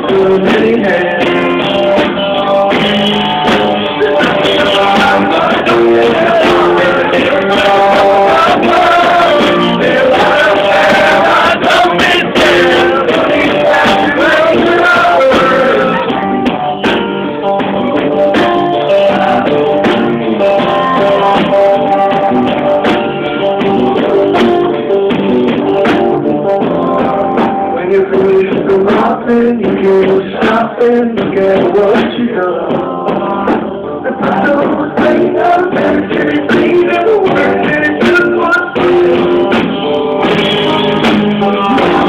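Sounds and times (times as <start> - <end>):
man singing: 0.0 - 16.3, 18.7 - 22.3, 26.8 - 42.0
rock band with strummed guitars: 0.0 - 42.0.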